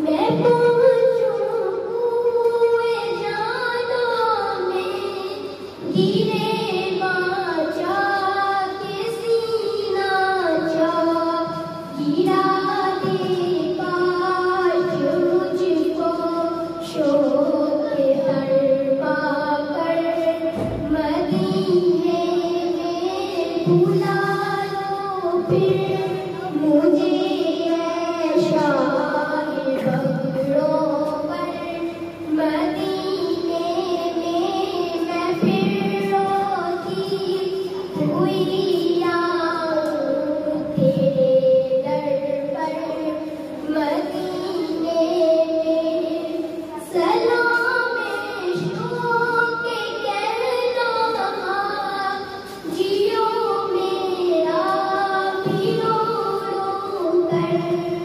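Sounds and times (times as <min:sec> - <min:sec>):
girl singing into a microphone: 0:00.0 - 0:58.0.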